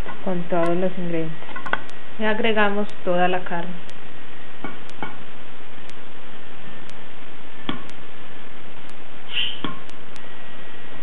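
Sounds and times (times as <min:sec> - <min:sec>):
steady hiss: 0:00.5 - 0:11.0.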